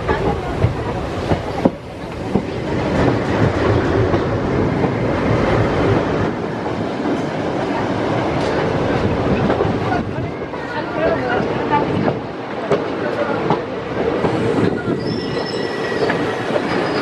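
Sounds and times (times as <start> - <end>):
diesel locomotive passing: 0.0 - 17.0
passenger coaches rattling by: 0.0 - 17.0.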